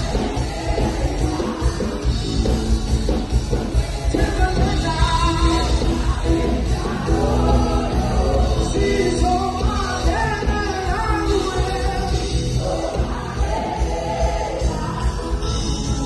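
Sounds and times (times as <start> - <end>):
band with heavy bass and drums: 0.0 - 16.0
singing voices: 0.0 - 16.0.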